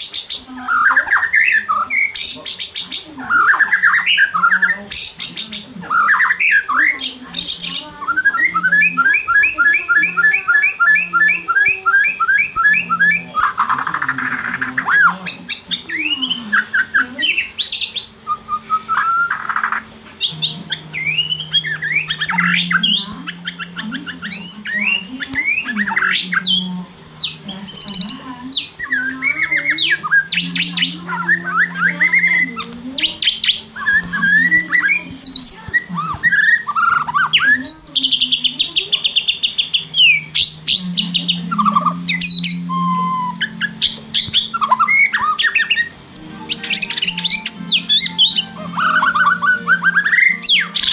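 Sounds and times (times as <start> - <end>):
bird singing: 0.0 - 50.9.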